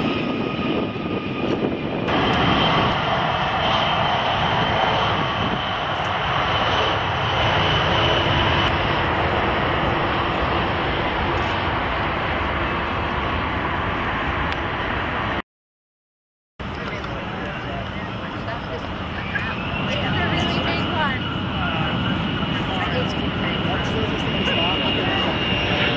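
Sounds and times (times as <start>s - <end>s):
high engine whine: 0.0s - 15.4s, 16.6s - 25.9s
jet engine roar: 0.0s - 15.4s, 16.6s - 25.9s.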